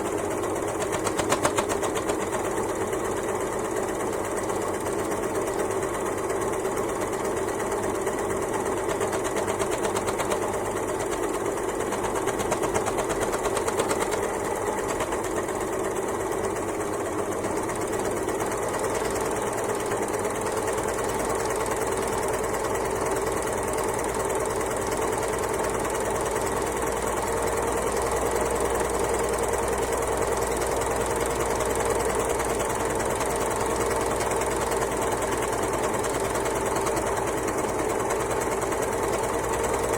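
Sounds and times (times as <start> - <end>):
overlocker sewing machine clatter: 0.0 - 39.9.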